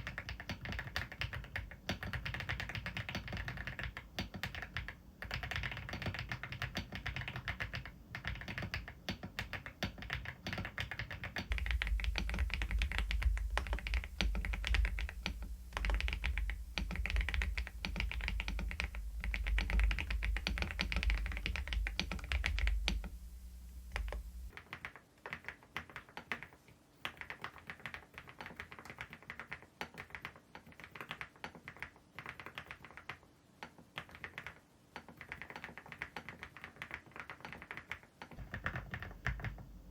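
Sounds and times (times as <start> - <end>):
mechanical keyboard typing: 0.0 - 23.1, 23.9 - 39.7.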